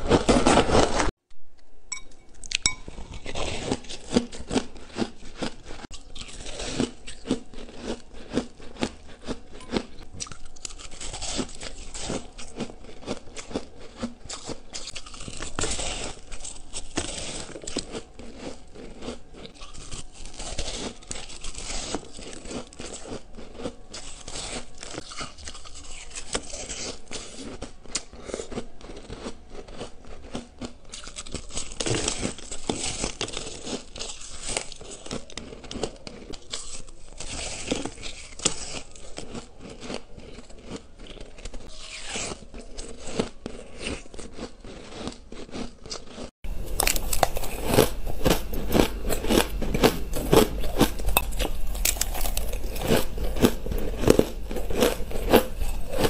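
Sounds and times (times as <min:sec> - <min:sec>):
ice crunching between teeth: 0:02.4 - 0:56.0.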